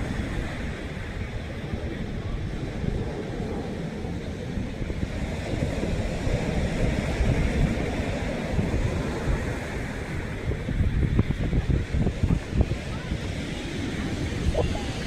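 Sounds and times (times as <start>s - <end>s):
sea waves washing: 0.0s - 15.0s
wind rumbling on microphone: 0.0s - 15.0s.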